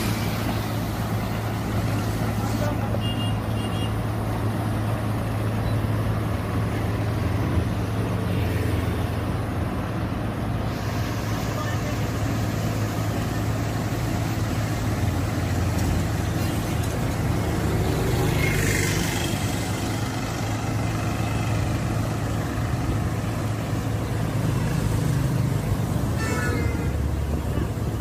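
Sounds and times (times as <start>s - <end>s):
diesel paving machine humming: 0.0s - 28.0s.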